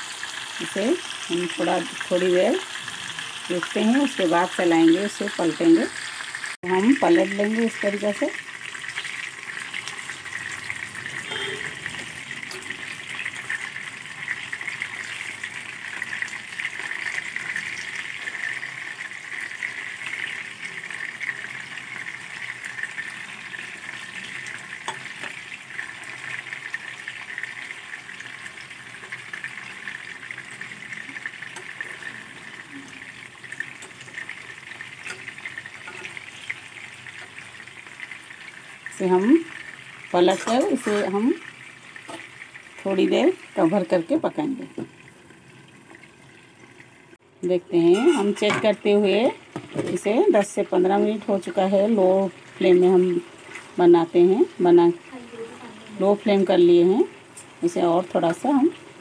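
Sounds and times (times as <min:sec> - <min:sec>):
kebabs sizzling in oil: 0:00.0 - 0:59.0.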